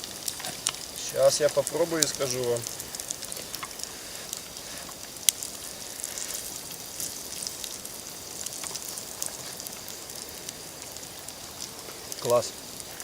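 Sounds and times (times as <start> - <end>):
fat popping and crackling: 0.0 - 13.0
fat sizzling in a skillet: 0.0 - 13.0.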